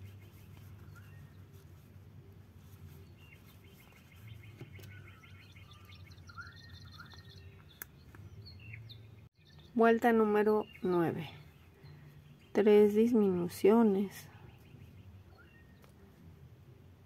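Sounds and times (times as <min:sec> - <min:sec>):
small birds chirping: 0:00.0 - 0:16.6
low steady hum: 0:00.0 - 0:17.0.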